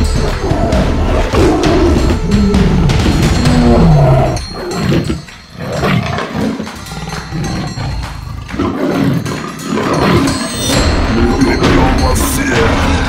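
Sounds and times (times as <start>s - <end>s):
animal roar: 0.0s - 10.8s
rough animal growl: 0.0s - 11.3s.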